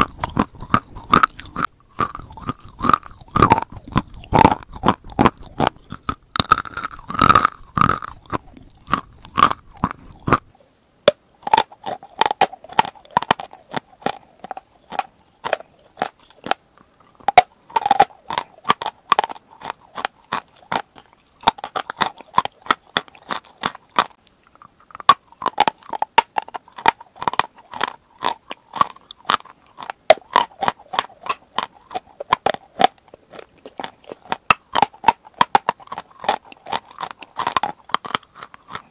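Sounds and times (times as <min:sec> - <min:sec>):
crunching chalk chewing: 0:00.0 - 0:38.9.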